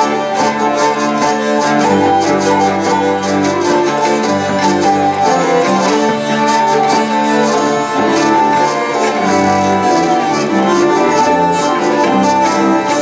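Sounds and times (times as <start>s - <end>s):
hurdy-gurdy folk dance music: 0.0s - 13.0s.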